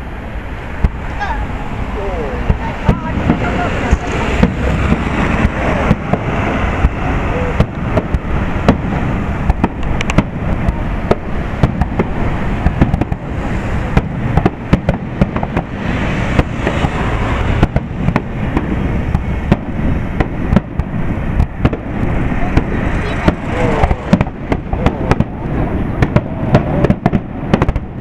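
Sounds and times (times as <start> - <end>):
low rumble of explosions: 0.0 - 28.0
fireworks bangs: 0.8 - 28.0.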